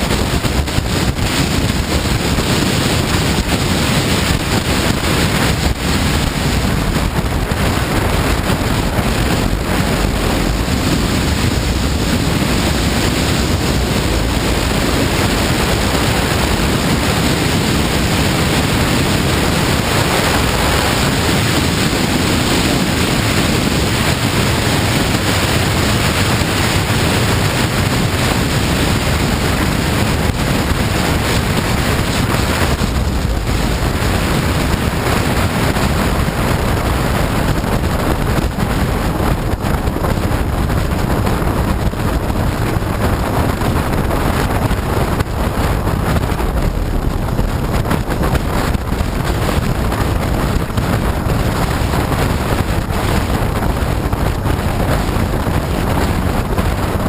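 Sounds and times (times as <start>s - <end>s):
motorcycle and road noise: 0.0s - 57.0s
wind buffeting microphone: 0.0s - 57.0s.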